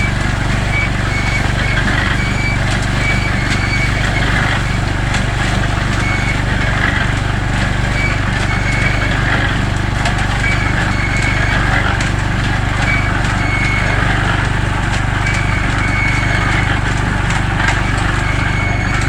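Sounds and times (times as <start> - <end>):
concrete mixer running: 0.0 - 19.0
high squeaks: 0.0 - 19.0.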